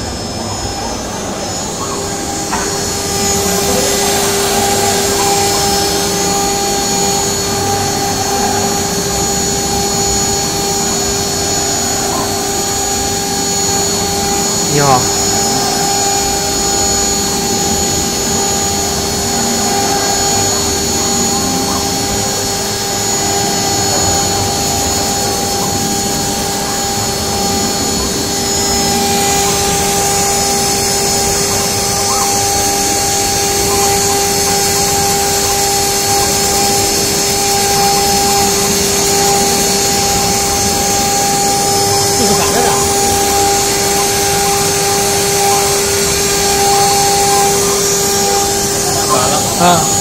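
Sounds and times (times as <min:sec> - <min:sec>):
engraving spindle whine: 0:00.0 - 0:50.0.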